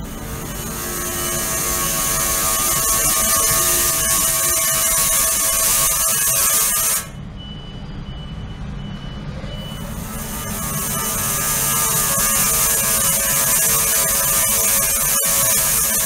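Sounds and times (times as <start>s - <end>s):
ultrasonic cleaner buzzing hiss: 0.0s - 7.1s, 9.9s - 16.0s
steady whining tones: 0.0s - 16.0s.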